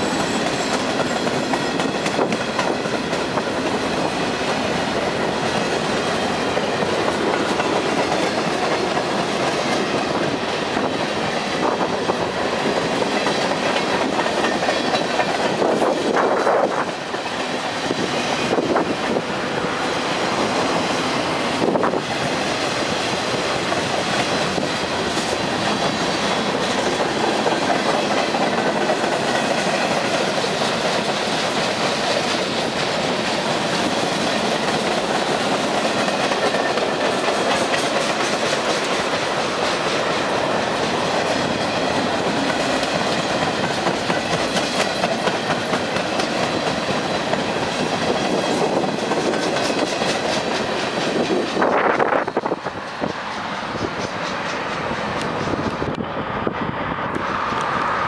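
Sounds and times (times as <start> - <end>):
wheels clicking over rail joints: 0.0 - 19.2, 21.4 - 56.0
steel wheels rolling on rails: 0.0 - 58.0.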